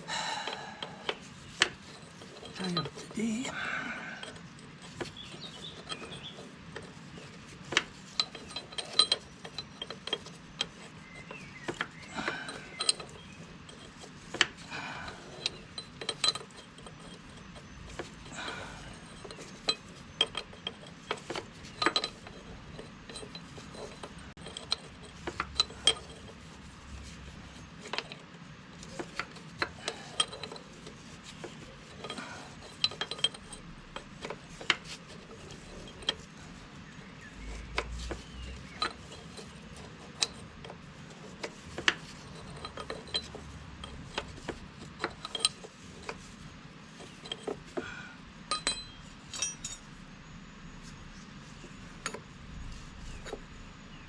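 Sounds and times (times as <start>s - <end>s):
spanners clinking on metal: 0.0s - 46.3s, 47.0s - 50.0s.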